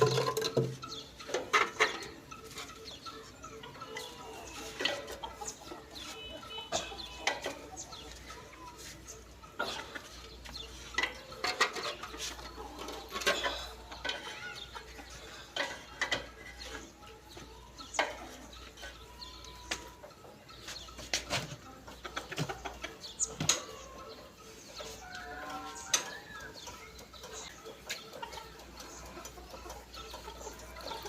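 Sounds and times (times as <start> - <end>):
hen clucking: 0.0 - 31.0.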